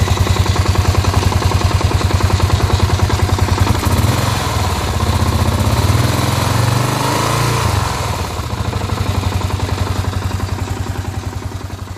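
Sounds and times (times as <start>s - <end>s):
engine knocking and grinding: 0.0s - 11.9s
motorcycle engine revving and idling: 0.0s - 11.9s.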